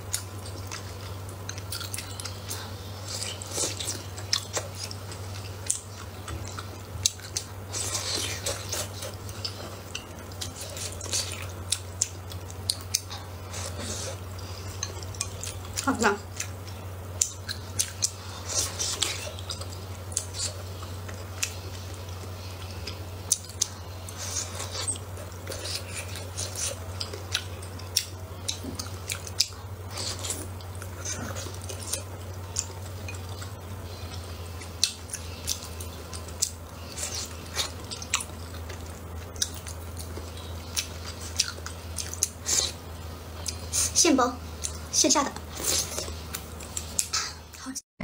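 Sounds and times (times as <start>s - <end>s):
steady low hum: 0.0s - 47.8s
slurping and chewing: 0.1s - 47.6s.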